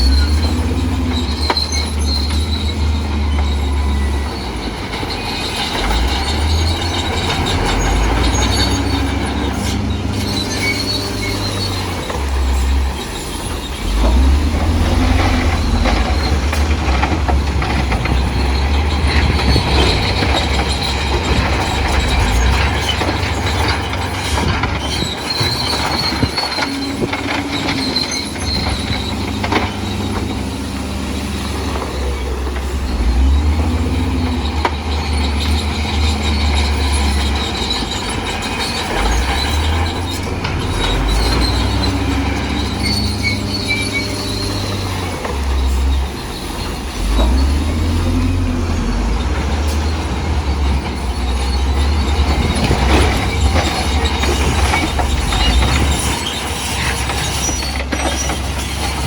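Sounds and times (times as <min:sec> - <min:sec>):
bulldozer diesel engine under load: 0:00.0 - 0:59.0
steel tracks squealing and clanking: 0:00.0 - 0:59.0.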